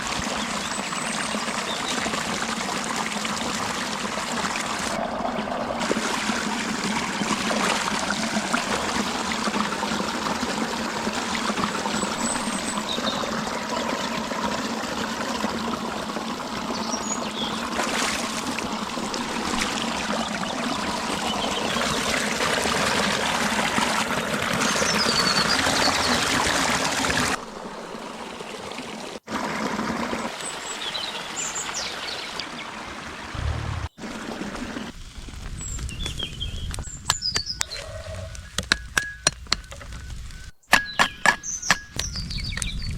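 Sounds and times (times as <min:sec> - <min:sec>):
stream trickling over stones: 0:00.0 - 0:37.8.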